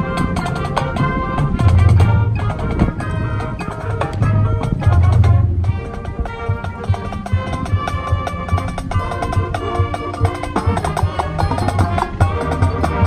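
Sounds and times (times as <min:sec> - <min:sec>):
low drums beating: 0:00.0 - 0:13.0
sharp clicking percussion: 0:00.0 - 0:13.0
winds and brass holding chords: 0:00.0 - 0:13.0.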